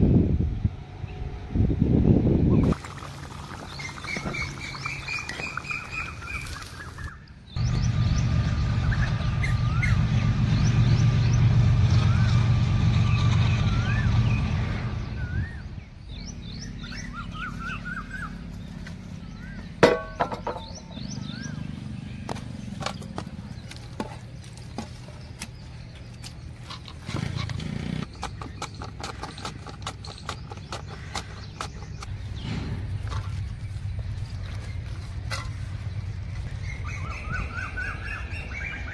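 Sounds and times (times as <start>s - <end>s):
birds chirping: 2.6s - 38.9s.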